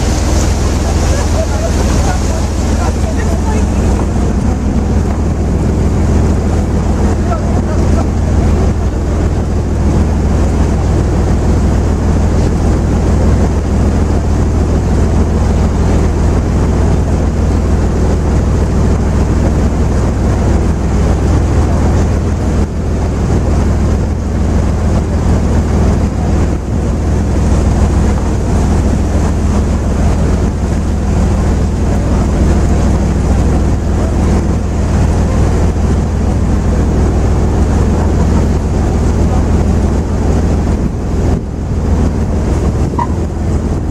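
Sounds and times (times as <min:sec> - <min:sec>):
boat diesel engine humming: 0:00.0 - 0:43.9
wind buffeting microphone: 0:00.0 - 0:43.9.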